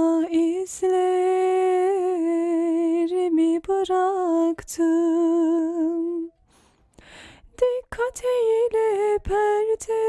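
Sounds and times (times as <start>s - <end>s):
woman singing unaccompanied: 0.0s - 6.4s, 7.5s - 10.0s.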